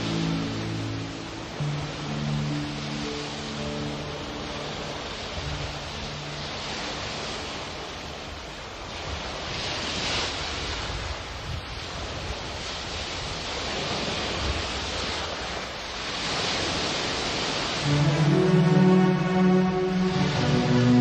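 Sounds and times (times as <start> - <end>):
ocean waves: 0.0 - 21.0.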